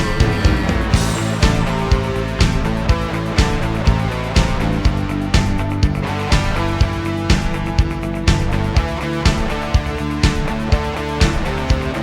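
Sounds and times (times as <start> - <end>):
guitars and bass: 0.0 - 12.0
steady drum beat: 0.0 - 12.0.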